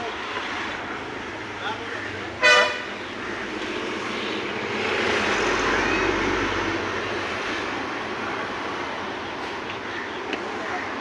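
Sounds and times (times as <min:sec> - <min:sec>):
road vehicle passing: 0:00.0 - 0:11.0
steady traffic noise: 0:00.0 - 0:11.0.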